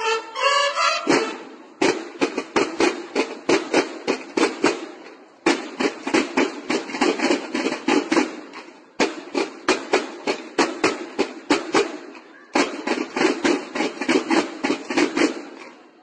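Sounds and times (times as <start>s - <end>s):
snare drums playing a cadence: 0.7s - 15.7s.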